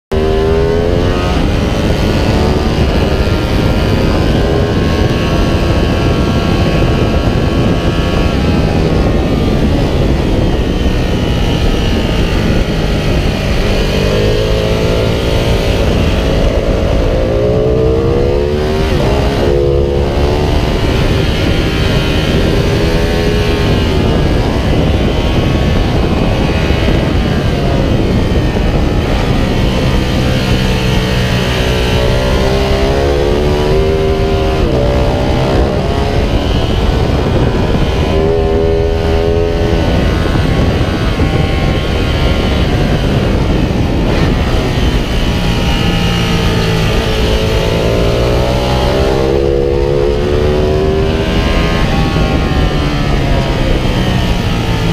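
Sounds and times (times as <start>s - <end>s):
motorcycle engine accelerating: 0.1s - 54.9s.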